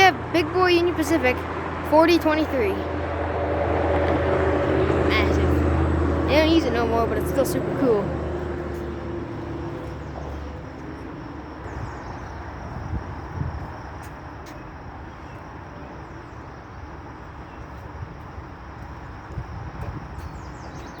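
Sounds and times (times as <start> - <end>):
low engine hum: 0.0 - 21.0
traffic rumble: 0.0 - 21.0.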